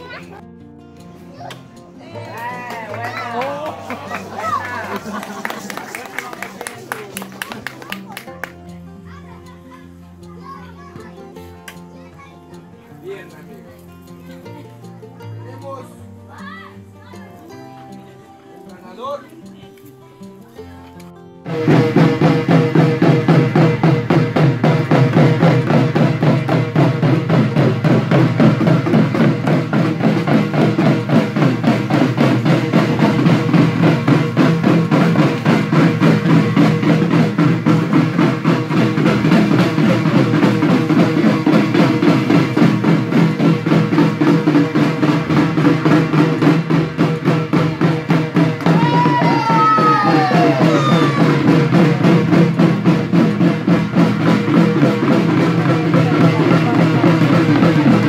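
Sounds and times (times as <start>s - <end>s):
music with fast drum beat: 1.3s - 58.0s.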